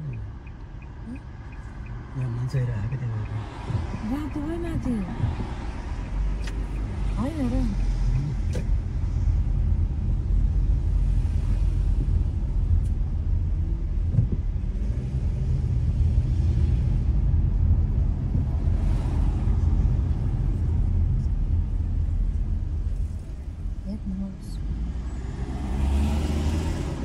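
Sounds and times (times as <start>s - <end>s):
car interior road and engine noise: 0.0s - 27.0s.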